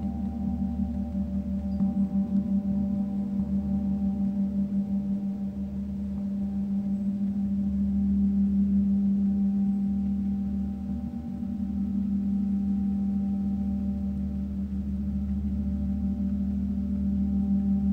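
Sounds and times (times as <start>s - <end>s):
gong humming: 0.0s - 17.9s.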